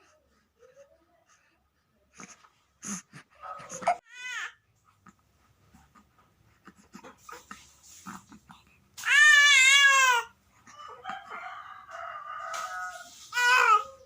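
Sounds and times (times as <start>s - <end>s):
baby fussing and babbling: 0.0s - 11.1s, 13.1s - 14.0s.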